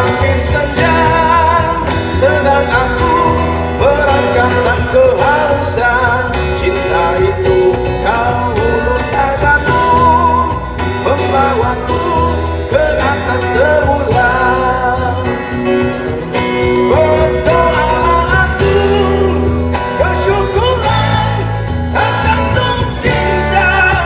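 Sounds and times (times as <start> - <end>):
acoustic guitar: 0.0 - 24.0
cajon: 0.0 - 24.0
electric bass: 0.0 - 24.0
man singing into microphone: 0.0 - 24.0.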